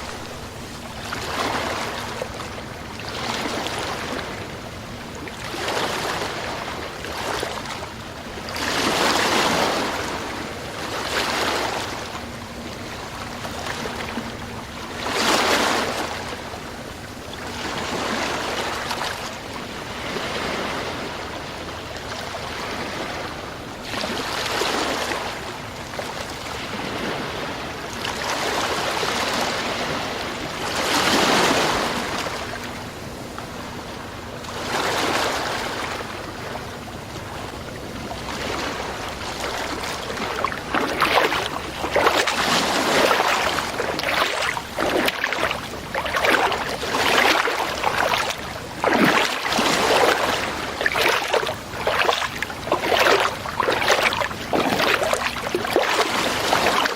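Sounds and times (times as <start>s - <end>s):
sea waves breaking on shore: 0.0s - 56.9s.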